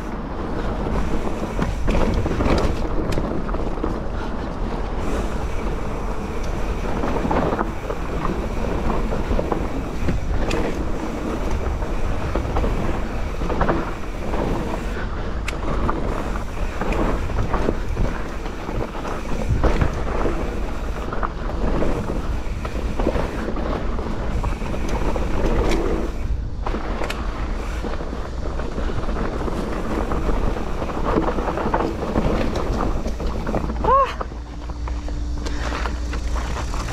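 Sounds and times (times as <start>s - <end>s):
bike rattling and knocking: 0.0s - 36.9s
bike tyres on dirt and stones: 0.0s - 36.9s
wind buffeting microphone: 0.0s - 36.9s.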